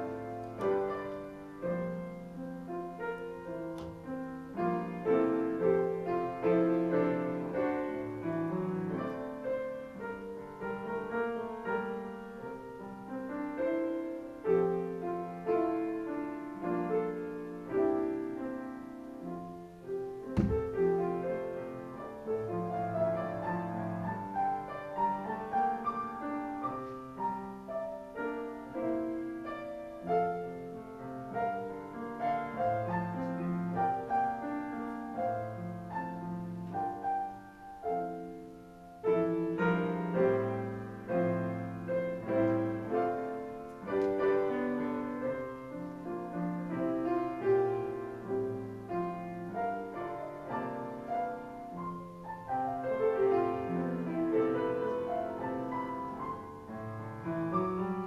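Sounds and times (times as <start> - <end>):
slow classical piano piece: 0.0 - 58.0.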